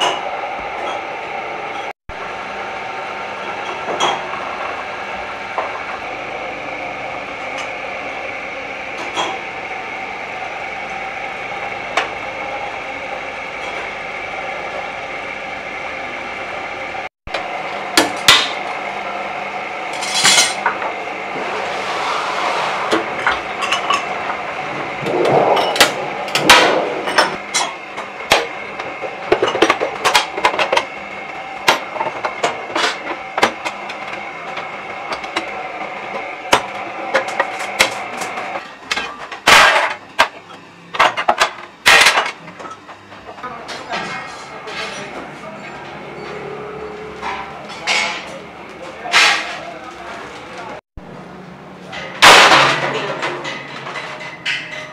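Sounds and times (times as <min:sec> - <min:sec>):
machine hum: 0:00.0 - 0:54.9.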